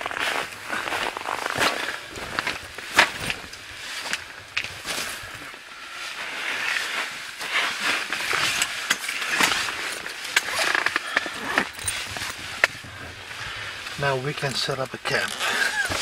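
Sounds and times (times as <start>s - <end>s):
tent fabric rustling: 0.0s - 16.0s.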